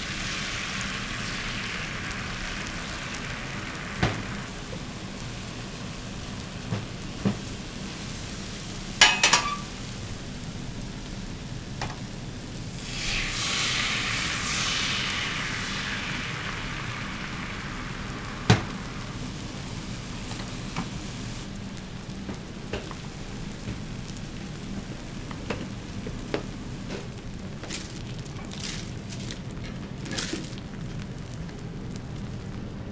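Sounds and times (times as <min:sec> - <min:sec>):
food sizzling on griddle: 0:00.0 - 0:32.9.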